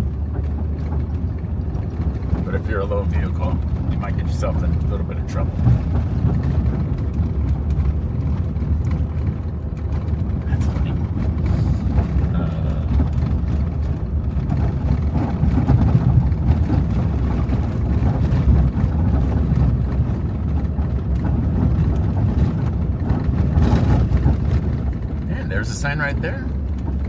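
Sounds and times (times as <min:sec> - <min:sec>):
vehicle engine and tyres rumbling: 0:00.0 - 0:27.0.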